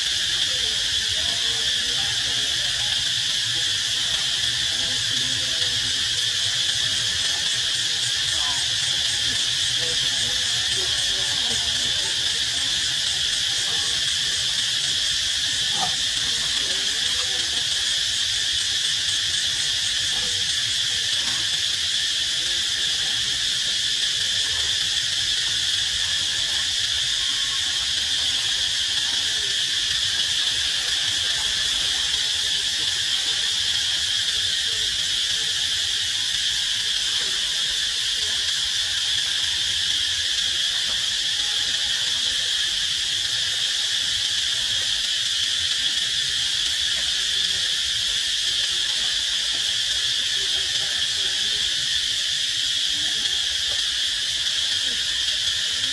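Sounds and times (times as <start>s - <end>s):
insect chorus drone: 0.0s - 55.9s.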